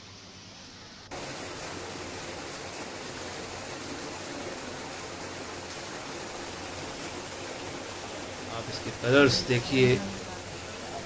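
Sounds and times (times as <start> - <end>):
fountain water splashing: 0.4 - 11.0.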